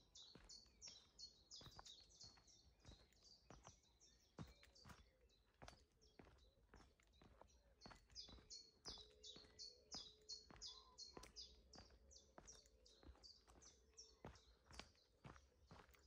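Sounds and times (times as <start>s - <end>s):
footsteps walking: 0.0s - 16.0s.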